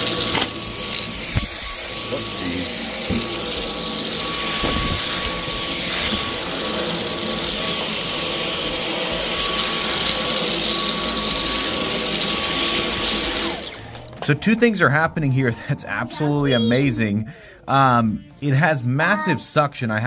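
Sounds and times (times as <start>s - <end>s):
vacuum cleaner motor whine: 0.0s - 17.1s.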